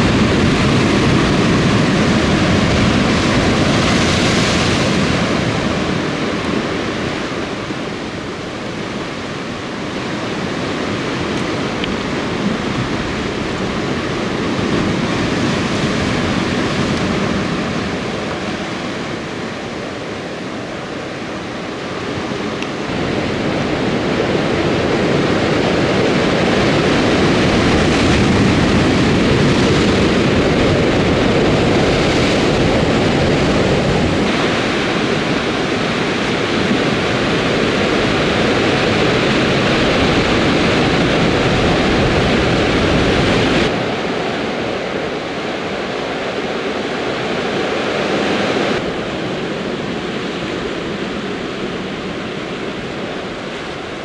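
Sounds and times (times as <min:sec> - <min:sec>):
sea surf breaking over rocks: 0:00.0 - 0:54.0.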